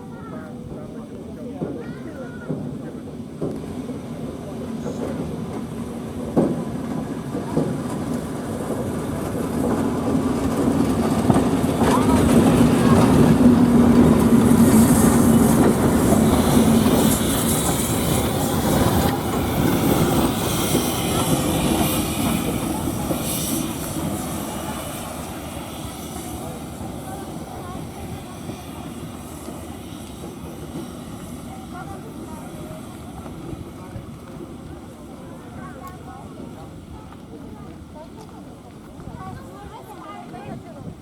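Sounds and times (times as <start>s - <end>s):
train rolling along track: 0.0s - 41.0s.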